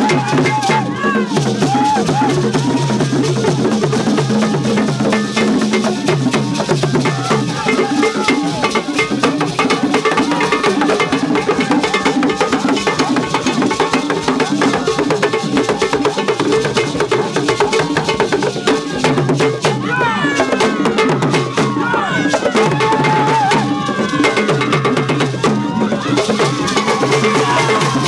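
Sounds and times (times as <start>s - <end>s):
hand drums playing dance rhythm: 0.0s - 28.0s.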